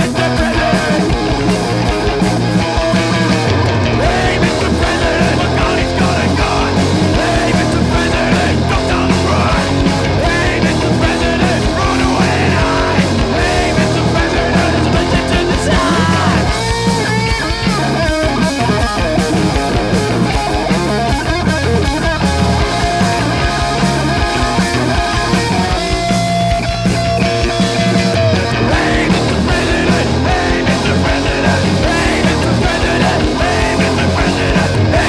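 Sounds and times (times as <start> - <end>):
punk rock band playing: 0.0 - 35.0.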